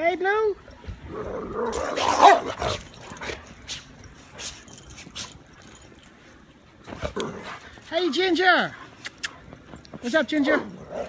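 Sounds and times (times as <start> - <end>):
dogs playing in snow: 0.3 - 11.0.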